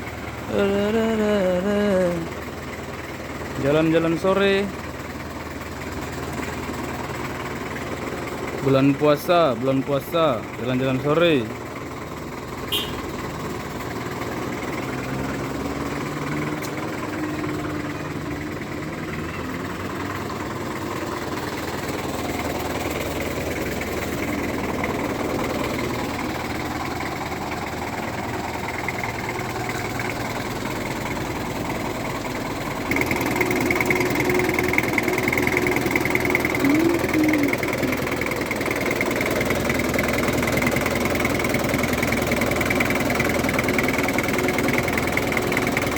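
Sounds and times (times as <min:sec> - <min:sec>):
car engine running while driving: 0:00.0 - 0:45.9.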